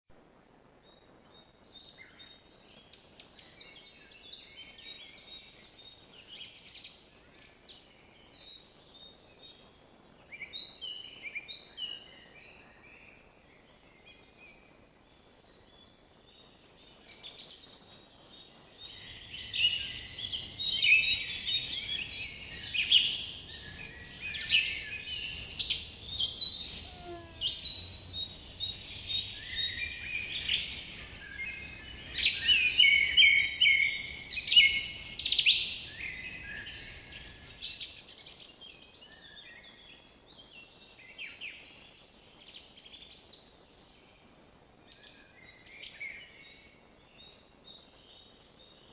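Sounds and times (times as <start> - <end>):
songbirds singing and chirping: 0.4 - 48.9.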